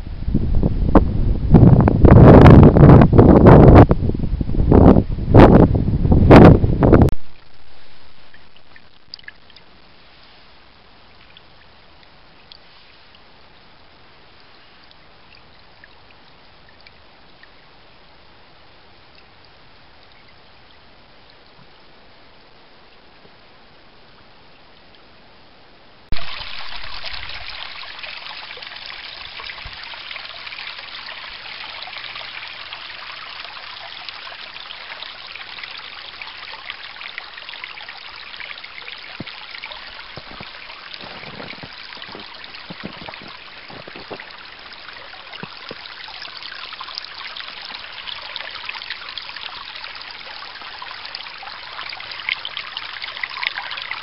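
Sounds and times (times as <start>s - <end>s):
creek babbling over stones: 7.1s - 25.2s, 26.1s - 54.0s.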